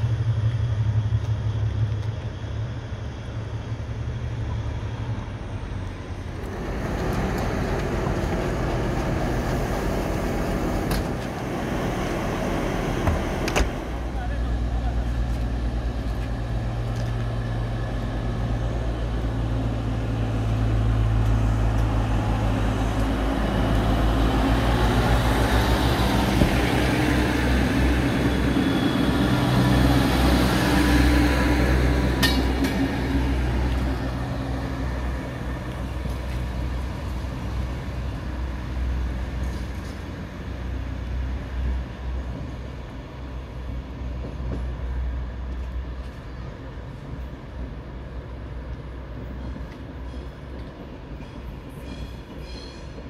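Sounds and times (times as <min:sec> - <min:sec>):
diesel train engine: 0:00.0 - 0:53.0.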